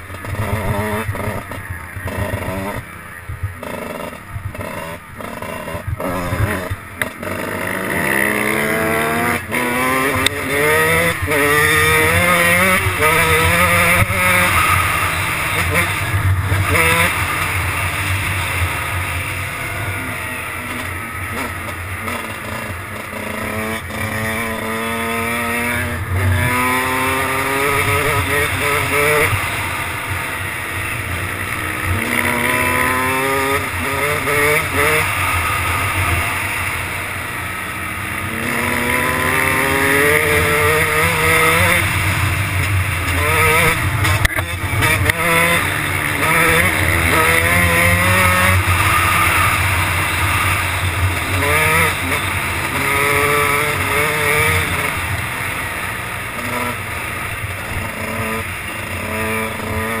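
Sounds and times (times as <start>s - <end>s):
motocross bike engine revving: 0.0s - 60.0s.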